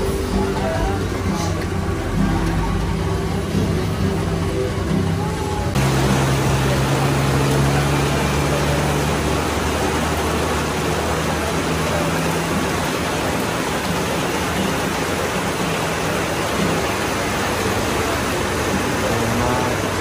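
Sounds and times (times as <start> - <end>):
heavy rain on a wet road: 0.0 - 20.0
traffic engine drone: 0.0 - 20.0.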